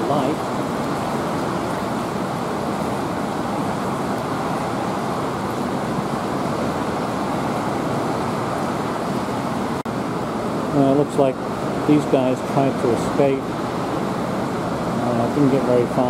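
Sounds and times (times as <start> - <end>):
water rushing and churning: 0.0 - 16.0.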